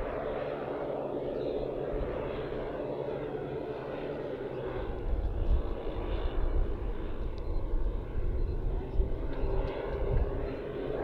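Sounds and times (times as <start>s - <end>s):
multi-engine model aircraft drone: 0.0s - 11.0s.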